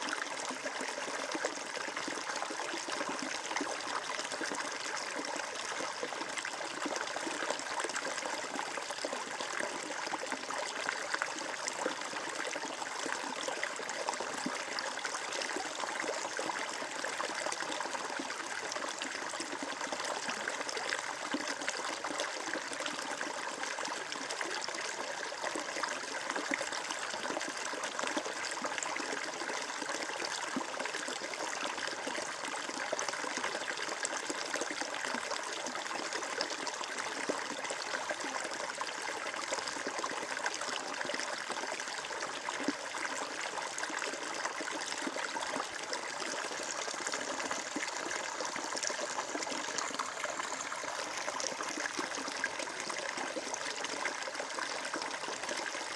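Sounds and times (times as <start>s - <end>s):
stream flowing over stones: 0.0s - 55.9s.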